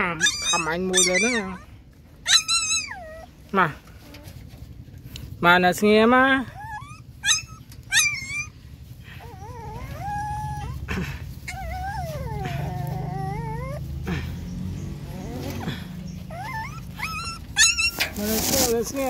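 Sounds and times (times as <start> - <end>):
puppy yelping: 0.0 - 4.4, 6.4 - 8.6, 9.2 - 14.2, 15.0 - 18.7
puppy whining: 0.0 - 4.8, 6.4 - 19.0.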